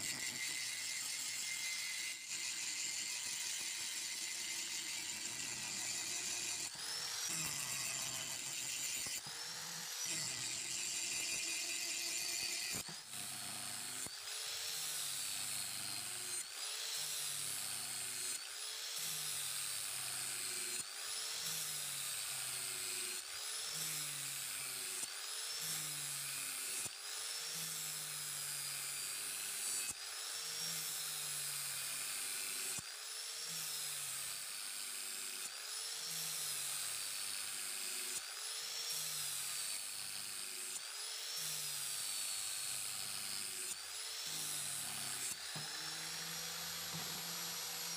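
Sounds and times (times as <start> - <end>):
angle grinder grinding steel: 0.0 - 47.9.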